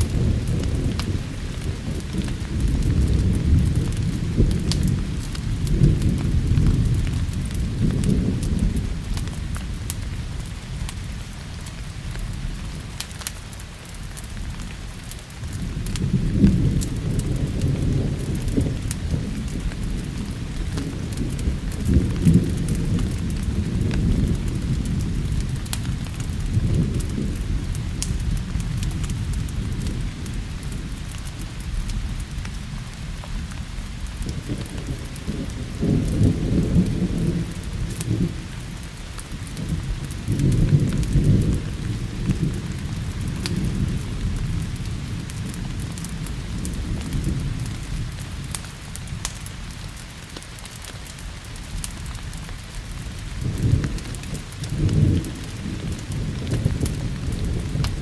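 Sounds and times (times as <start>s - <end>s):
steady rain: 0.0s - 58.0s
thunder rumbling: 0.0s - 58.0s
wood fire crackling: 0.0s - 58.0s.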